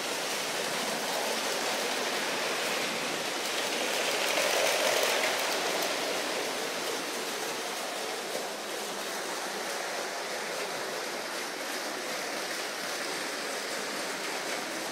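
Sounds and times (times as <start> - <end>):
toy train motors whirring: 0.0 - 14.9.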